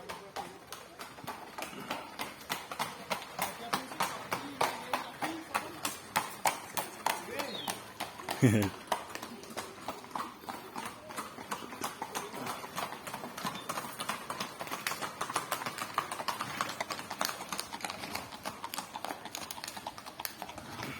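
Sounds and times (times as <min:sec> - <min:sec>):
horse hooves clip-clopping: 0:00.0 - 0:20.9.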